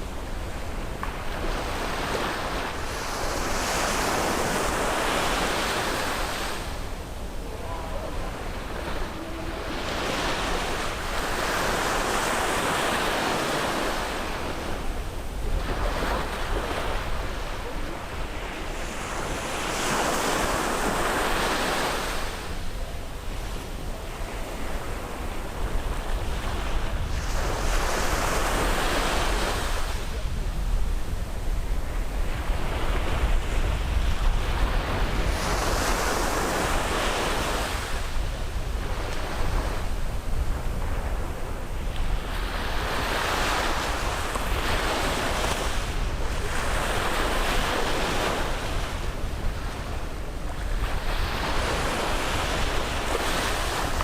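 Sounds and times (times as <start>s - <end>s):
ocean surf breaking on shore: 0.0s - 54.0s.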